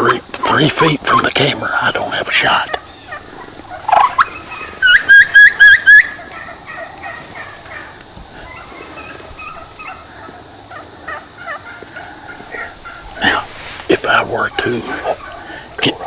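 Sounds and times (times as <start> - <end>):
wild turkeys calling: 0.0 - 16.0.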